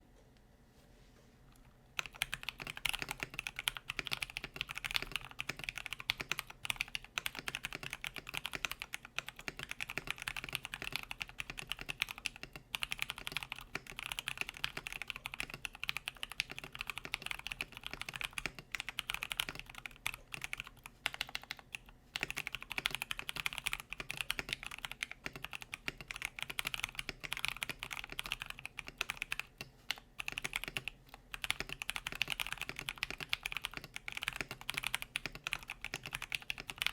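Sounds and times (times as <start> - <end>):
fast typing on mechanical keyboard: 2.0 - 36.9.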